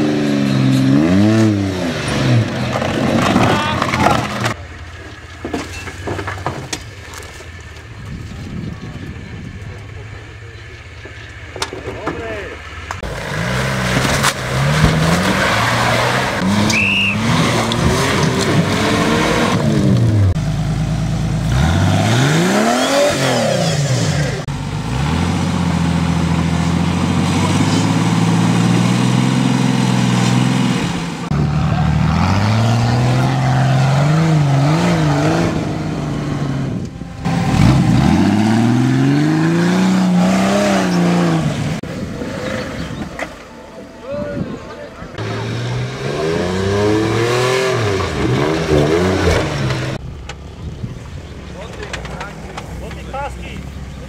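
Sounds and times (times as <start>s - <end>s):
off-road vehicle engine revving: 0.0s - 5.3s, 6.1s - 43.6s, 44.4s - 54.0s.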